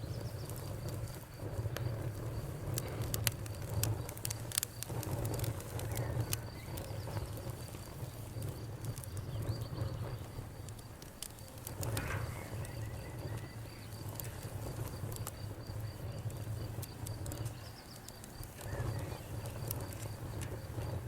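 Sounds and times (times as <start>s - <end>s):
campfire crackling: 0.0s - 21.0s
cricket chirping: 0.0s - 21.0s.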